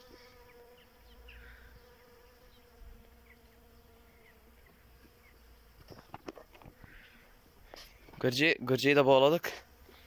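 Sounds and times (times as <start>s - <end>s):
bees buzzing faintly: 0.0s - 10.0s.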